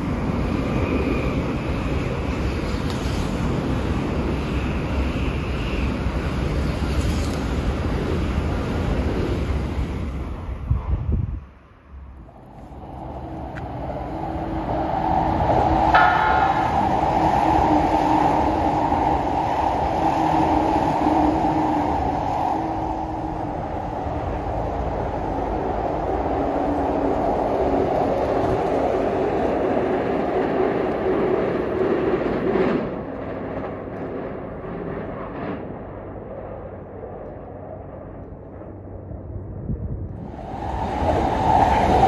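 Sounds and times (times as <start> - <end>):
electric train passing: 0.0 - 42.0.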